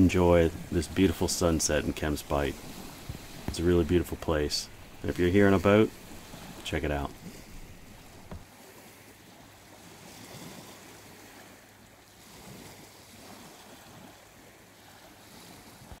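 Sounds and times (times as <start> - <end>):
gentle sea waves: 0.0 - 16.0.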